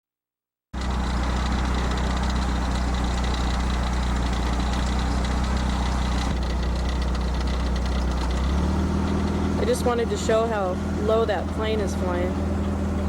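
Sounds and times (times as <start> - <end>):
engine droning: 0.8 - 13.0.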